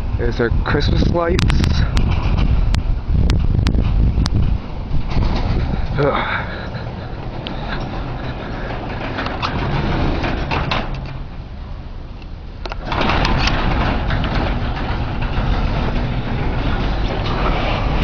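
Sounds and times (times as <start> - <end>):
blizzard wind buffeting microphone: 0.0 - 18.0.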